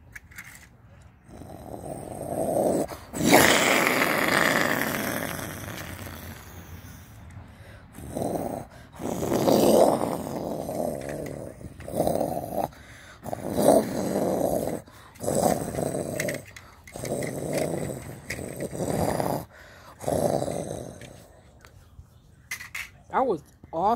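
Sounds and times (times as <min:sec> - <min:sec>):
person imitating jet planes: 0:01.4 - 0:07.2, 0:07.9 - 0:21.3.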